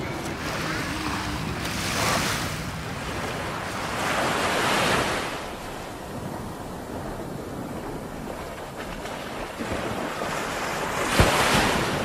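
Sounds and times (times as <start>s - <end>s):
sea waves washing up beach: 0.0s - 12.0s.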